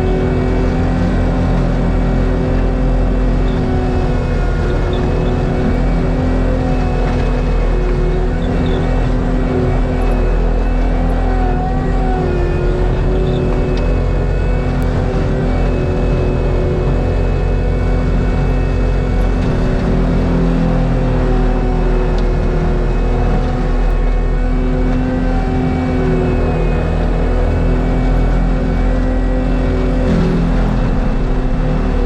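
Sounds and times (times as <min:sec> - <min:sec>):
heavy diesel engine under load: 0:00.0 - 0:32.0.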